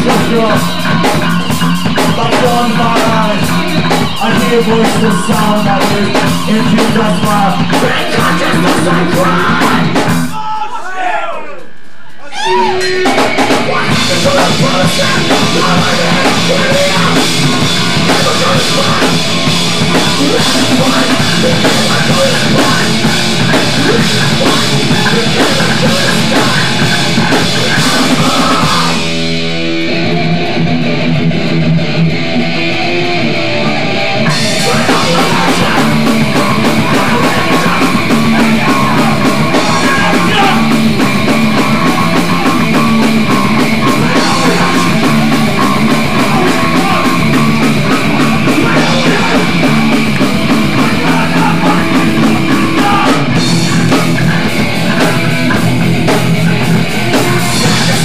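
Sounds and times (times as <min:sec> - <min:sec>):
distorted electric guitar: 0:00.0 - 0:10.4, 0:11.6 - 0:58.0
punk band playing live: 0:00.0 - 0:10.7, 0:11.7 - 0:58.0
drums: 0:00.0 - 0:58.0.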